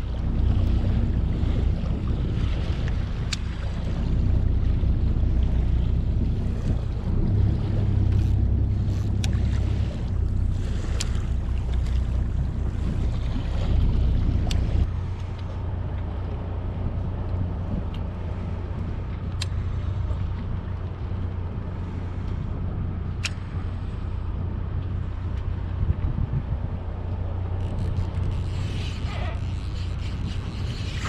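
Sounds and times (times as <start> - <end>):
boat engine humming: 0.0 - 31.0
water noise: 0.0 - 31.0
wind noise: 0.0 - 31.0.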